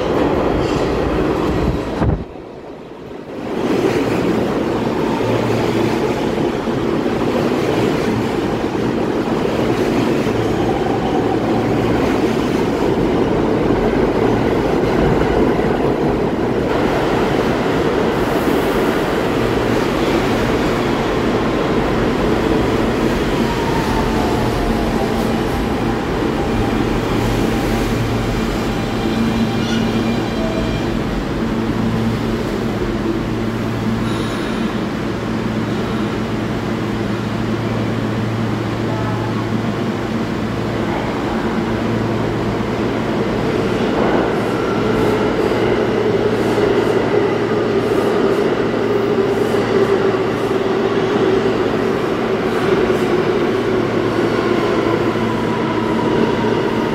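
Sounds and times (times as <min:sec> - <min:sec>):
subway train wheels rumbling: 0:00.0 - 0:56.9.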